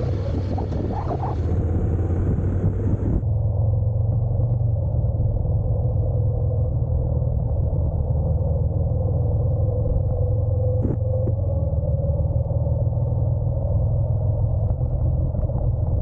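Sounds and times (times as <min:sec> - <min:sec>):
motorcycle engine rumble: 0:00.0 - 0:16.0
wind: 0:00.0 - 0:16.0.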